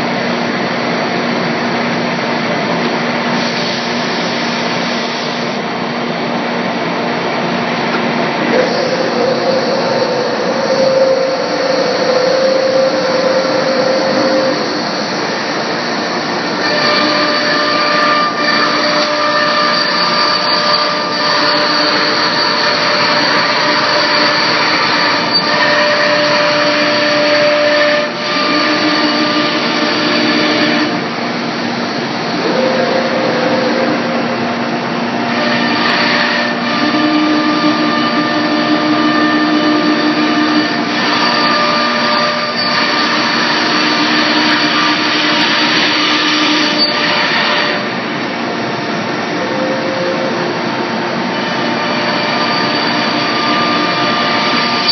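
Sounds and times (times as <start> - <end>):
low machine tone: 7.8 - 47.1, 47.8 - 54.9
router machine high whine: 7.8 - 54.9.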